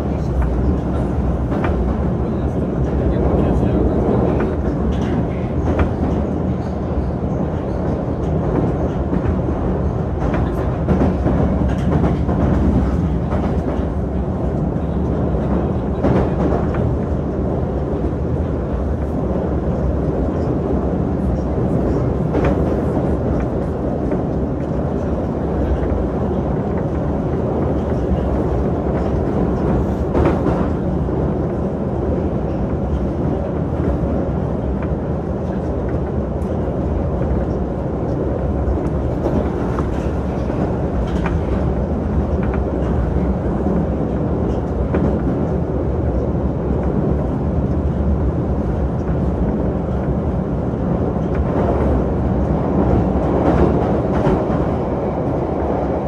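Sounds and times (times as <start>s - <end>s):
metro train wheels rumbling: 0.0s - 56.0s.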